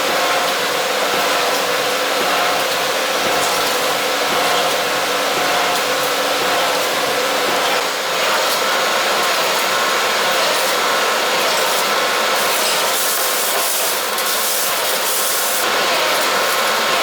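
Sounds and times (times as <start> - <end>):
industrial machine tool running: 0.0 - 17.0.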